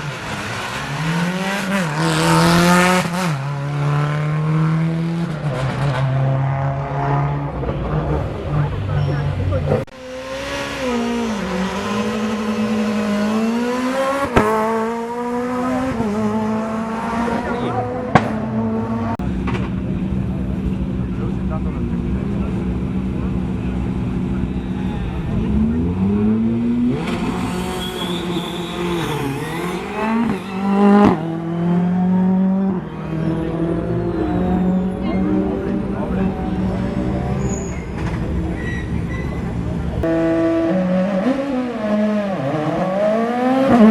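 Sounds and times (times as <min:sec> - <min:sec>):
rally car engine at high revs: 0:00.0 - 0:19.2, 0:25.2 - 0:38.5, 0:39.9 - 0:43.9.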